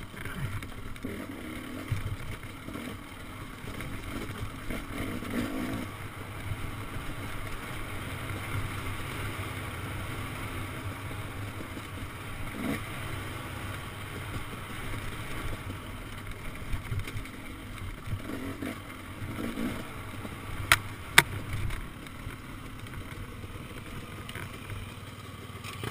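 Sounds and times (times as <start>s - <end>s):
dirt bike engine: 0.0s - 25.9s.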